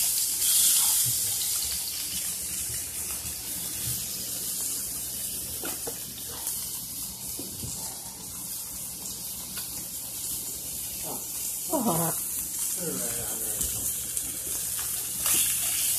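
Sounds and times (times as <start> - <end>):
patties sizzling in a pan: 0.0 - 15.9.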